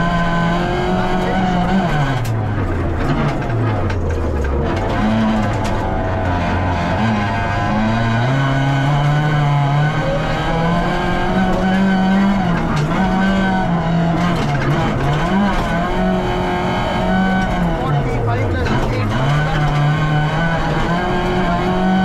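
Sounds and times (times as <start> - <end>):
car engine revving: 0.0 - 22.0
tyre and road noise: 0.0 - 22.0.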